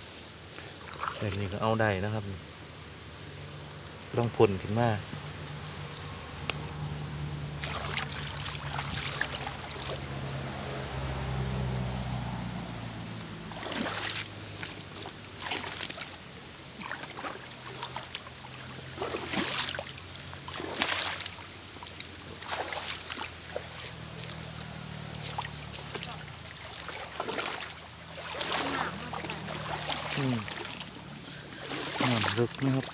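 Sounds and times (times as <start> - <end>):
water sloshing and splashing: 0.1 - 32.9.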